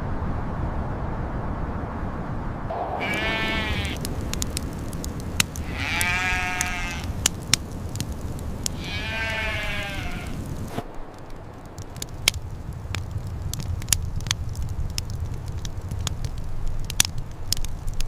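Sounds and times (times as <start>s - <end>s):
steady low rumble: 0.8s - 18.0s
sharp clicks: 3.1s - 18.0s.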